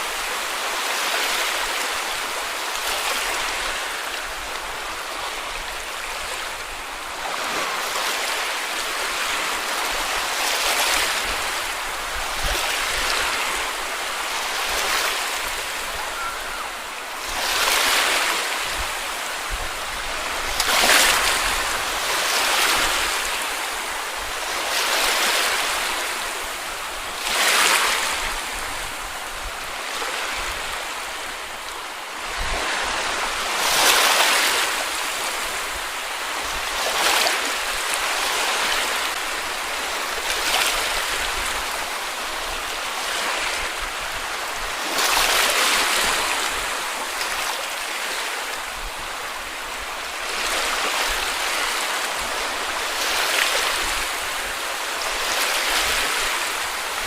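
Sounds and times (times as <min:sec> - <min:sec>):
small waves breaking on beach: 0:00.0 - 0:57.0.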